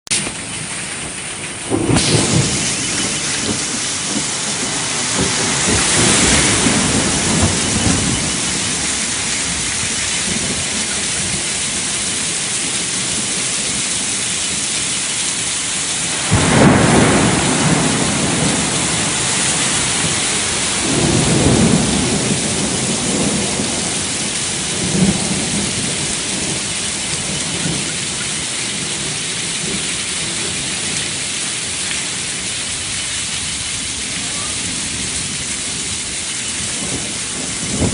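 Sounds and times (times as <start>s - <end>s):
steady rain falling: 0.1s - 37.9s
thunder rolling: 0.2s - 14.0s, 15.5s - 37.9s.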